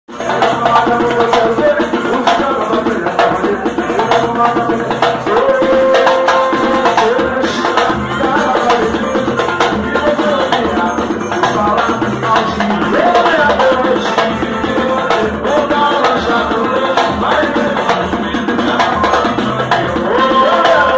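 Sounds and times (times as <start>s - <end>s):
fast drum and percussion beat: 0.1s - 20.9s
gliding melody line: 0.1s - 20.9s.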